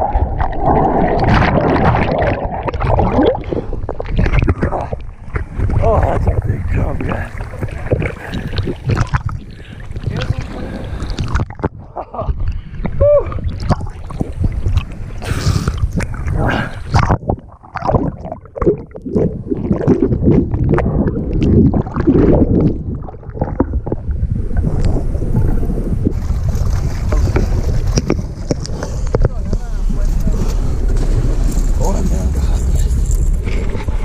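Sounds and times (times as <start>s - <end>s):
muffled underwater gurgling: 0.0s - 34.0s
water sloshing and splashing: 0.0s - 34.0s.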